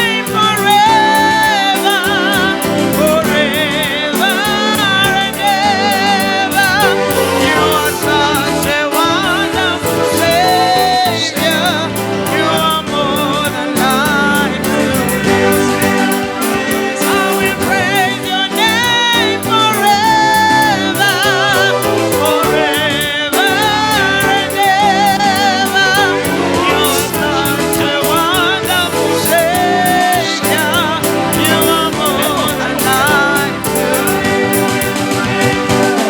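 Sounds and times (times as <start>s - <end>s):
gospel singing with band: 0.0s - 36.0s.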